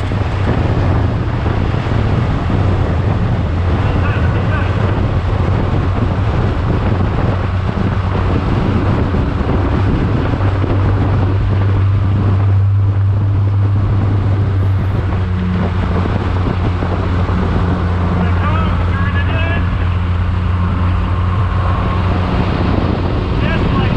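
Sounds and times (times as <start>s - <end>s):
race car engine: 0.0s - 23.9s
wind noise on microphone: 0.0s - 23.9s.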